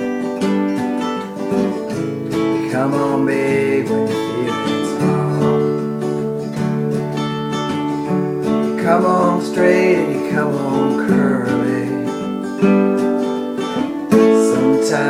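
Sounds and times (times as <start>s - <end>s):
acoustic guitar strumming: 0.0s - 15.0s
bending melody line: 0.0s - 15.0s.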